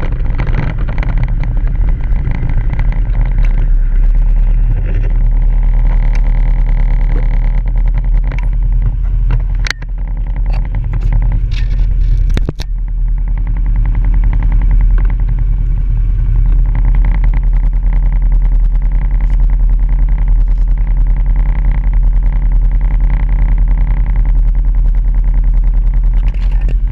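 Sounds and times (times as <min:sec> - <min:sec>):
atv engine running: 0:00.0 - 0:26.9.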